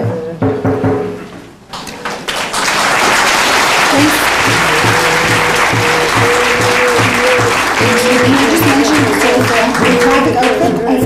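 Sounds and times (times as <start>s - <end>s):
audience clapping: 1.7s - 11.0s.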